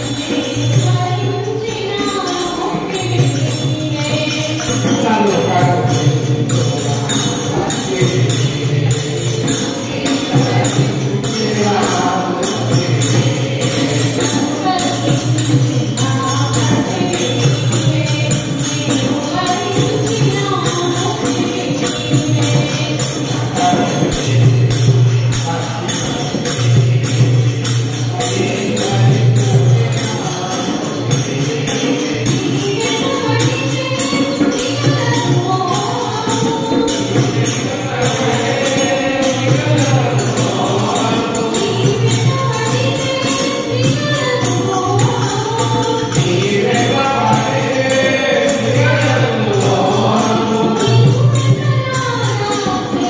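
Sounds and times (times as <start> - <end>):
woman singing into microphone: 0.0 - 25.0, 28.0 - 53.0
jingling percussion: 0.0 - 53.0
women singing devotional song: 0.0 - 53.0.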